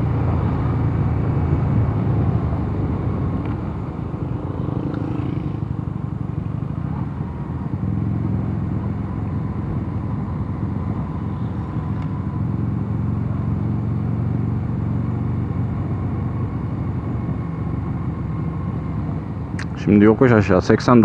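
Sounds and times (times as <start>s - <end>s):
motorcycle engine cruising: 0.0s - 21.0s
road noise: 0.0s - 21.0s.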